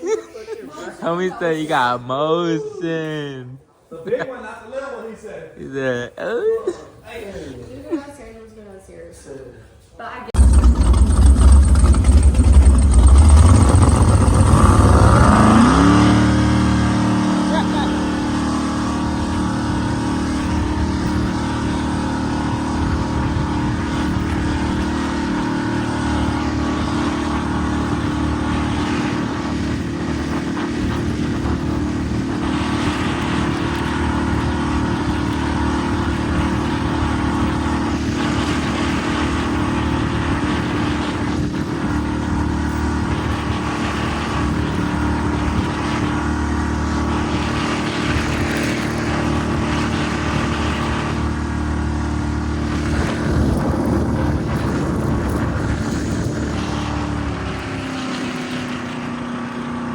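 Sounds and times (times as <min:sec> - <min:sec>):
motorboat engine running: 0:10.3 - 0:59.9
rush of wind and water: 0:10.5 - 0:59.9.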